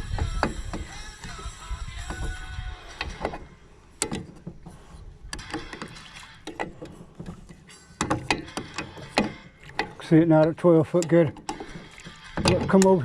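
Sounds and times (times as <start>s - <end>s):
knocks and clunks of handling: 2.0s - 13.0s.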